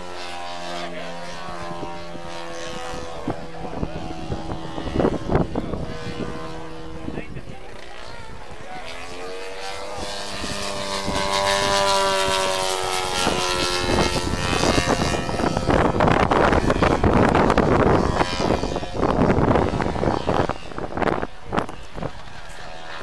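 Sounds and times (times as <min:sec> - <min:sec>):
model plane engine droning: 0:00.0 - 0:23.0.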